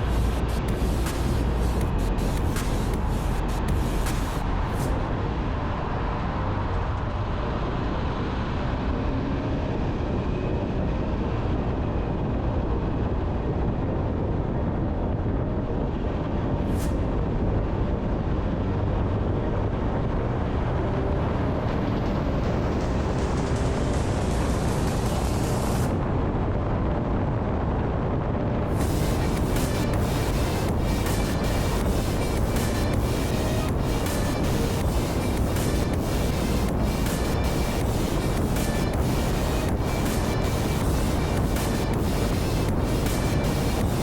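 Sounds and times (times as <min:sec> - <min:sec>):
road and tyre noise: 0:00.0 - 0:44.0
wind rumble: 0:00.0 - 0:44.0.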